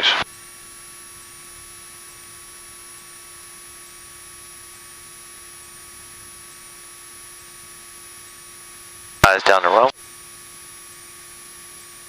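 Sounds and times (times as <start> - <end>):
electrical hum and hiss: 0.0 - 12.0
faint constant tones: 0.0 - 12.0.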